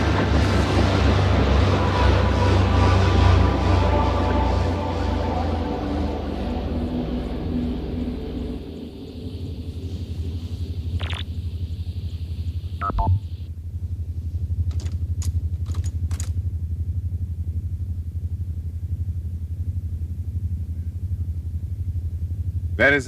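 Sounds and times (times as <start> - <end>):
low electronic throbbing hum: 0.0 - 23.0.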